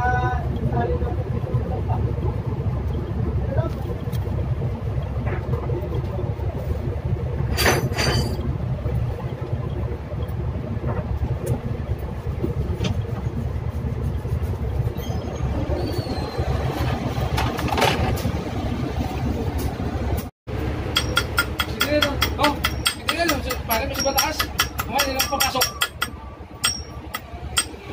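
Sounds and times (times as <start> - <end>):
low machinery drone: 0.0 - 24.9, 25.6 - 27.9.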